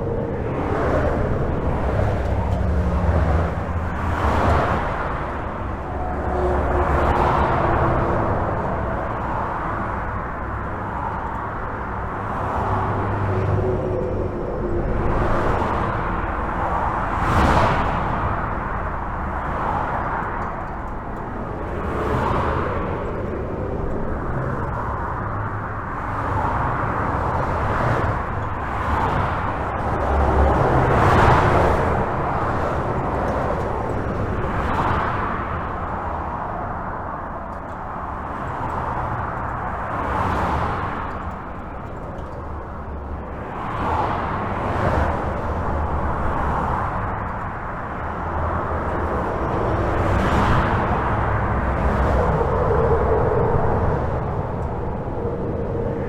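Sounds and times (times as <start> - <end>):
highway traffic: 0.0 - 56.0
vehicles passing: 0.0 - 56.0.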